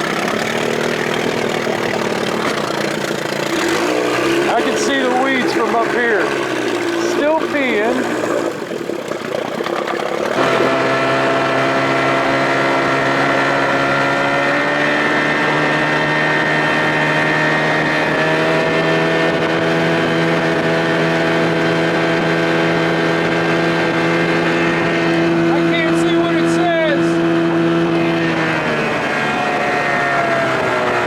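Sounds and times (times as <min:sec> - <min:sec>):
outboard motor running hard: 0:00.0 - 0:31.0.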